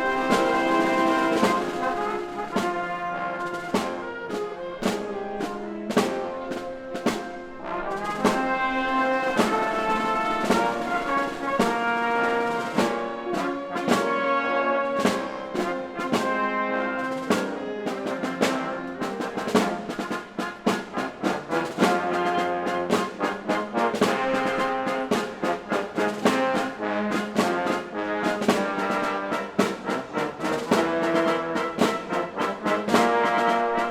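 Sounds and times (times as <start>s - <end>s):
brass-led orchestra playing: 0.0s - 33.9s.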